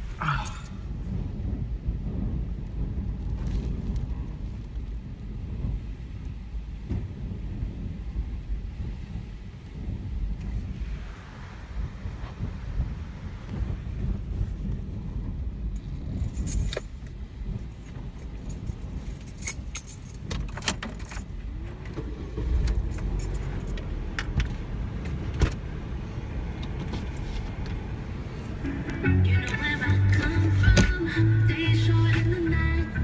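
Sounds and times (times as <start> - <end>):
wind buffeting microphone: 0.0 - 28.7.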